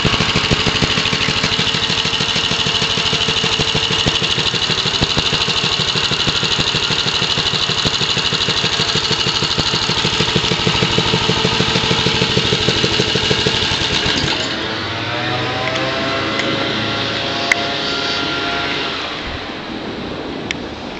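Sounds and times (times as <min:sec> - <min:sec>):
small engine idling: 0:00.0 - 0:18.8.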